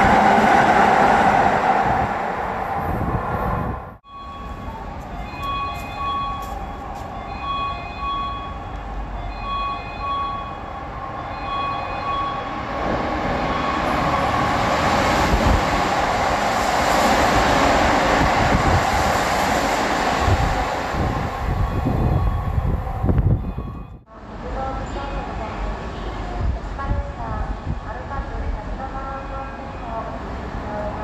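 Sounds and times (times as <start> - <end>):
train passing through station: 0.0 - 31.0.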